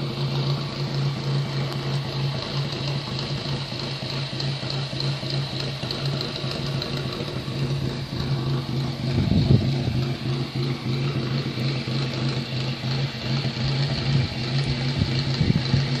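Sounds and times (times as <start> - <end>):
engine running with high whine: 0.0 - 16.0.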